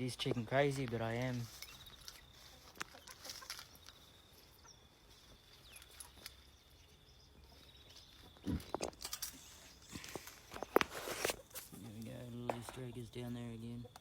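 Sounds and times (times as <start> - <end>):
faint bird chirp: 0.0 - 14.0.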